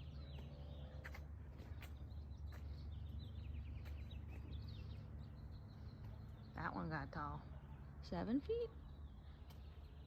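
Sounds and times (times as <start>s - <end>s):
small birds chirping in trills: 0.0s - 10.0s.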